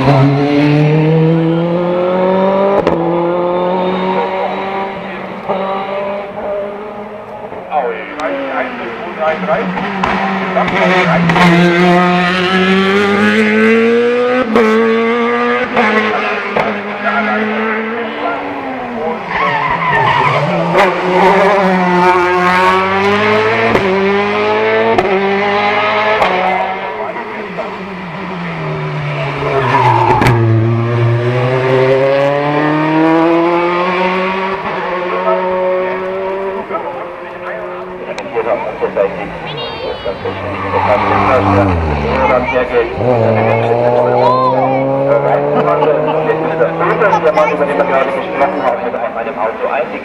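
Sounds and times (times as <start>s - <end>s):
race car engine accelerating: 0.0s - 50.0s.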